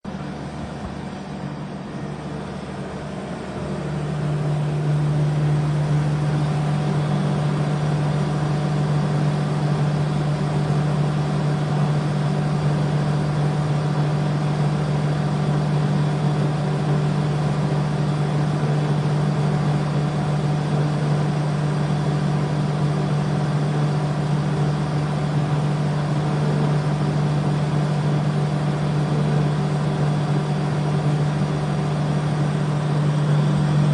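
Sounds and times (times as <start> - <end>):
truck engine droning: 0.1 - 33.9.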